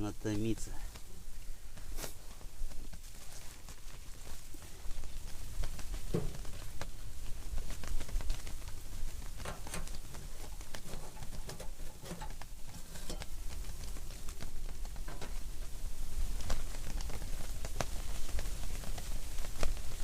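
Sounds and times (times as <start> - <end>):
pattering on tent fabric: 0.0 - 20.0
wind buffeting tent: 0.0 - 20.0.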